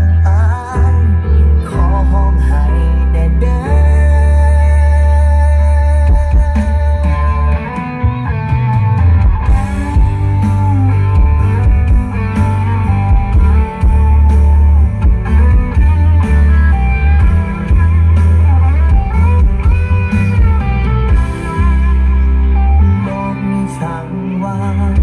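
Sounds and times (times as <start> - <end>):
pop music over loudspeakers: 0.0 - 25.0.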